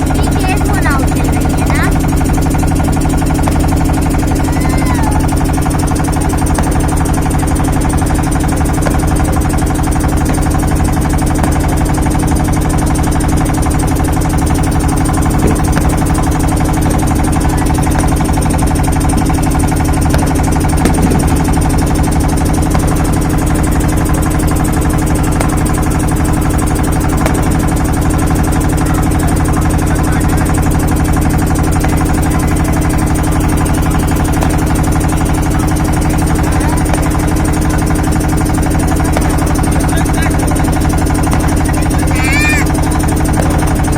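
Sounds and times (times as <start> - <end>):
mechanical drone: 0.0 - 43.9.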